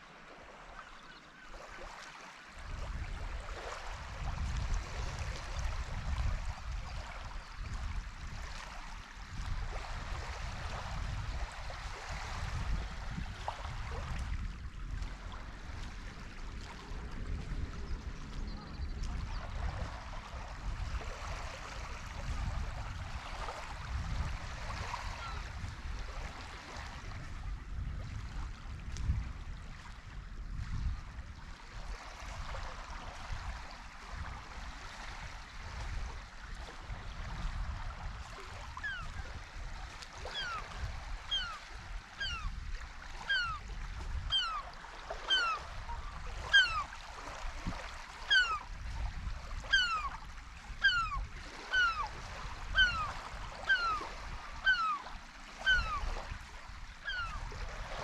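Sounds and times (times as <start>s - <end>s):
sea water lapping: 0.0s - 58.0s
wind buffeting microphone: 2.6s - 55.0s.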